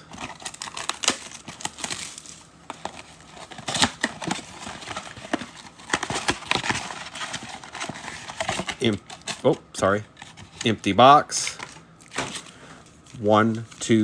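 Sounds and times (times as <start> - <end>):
foil wrappers crinkling: 0.0 - 14.0.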